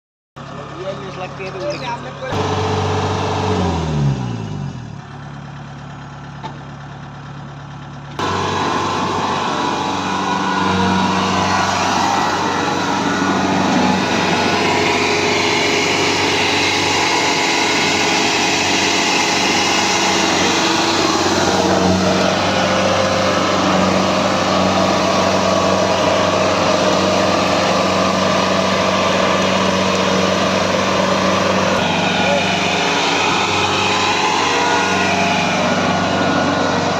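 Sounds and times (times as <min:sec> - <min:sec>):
combine harvester running: 0:00.4 - 0:36.9.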